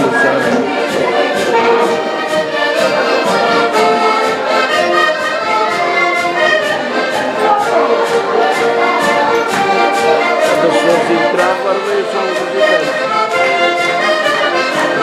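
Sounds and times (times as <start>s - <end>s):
accordion tune: 0.0s - 15.0s
steady percussion beat: 0.0s - 15.0s.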